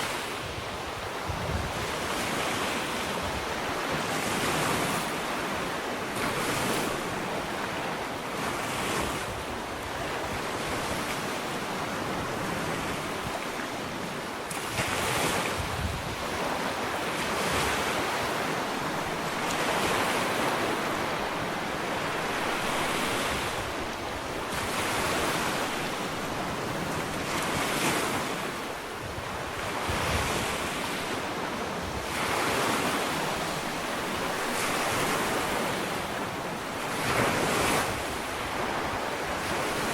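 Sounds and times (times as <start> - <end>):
ocean waves breaking on beach: 0.0 - 39.9
wind noise on microphone: 0.0 - 39.9.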